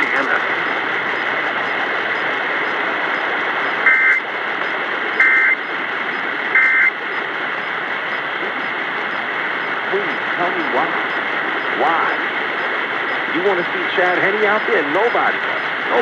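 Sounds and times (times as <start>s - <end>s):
screeching data tone bursts: 0.0s - 4.3s, 5.1s - 16.0s
radio hiss: 0.0s - 16.0s.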